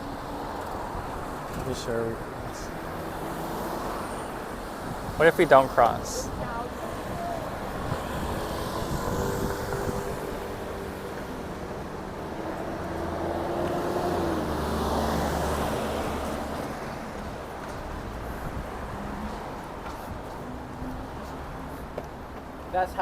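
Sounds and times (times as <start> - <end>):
car engines passing: 0.0 - 23.0.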